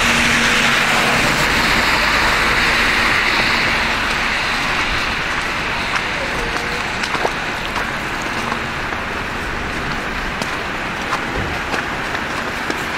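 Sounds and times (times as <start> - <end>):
bus engine hum: 0.0 - 12.9.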